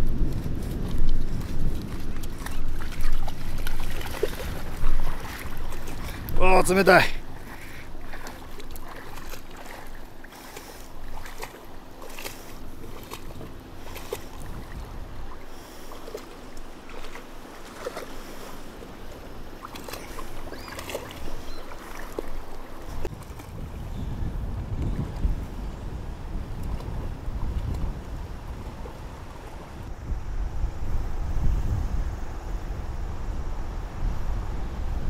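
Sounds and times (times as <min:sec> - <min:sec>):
small splashes of wading: 0:00.0 - 0:29.9
shallow river water splashing: 0:00.0 - 0:31.2.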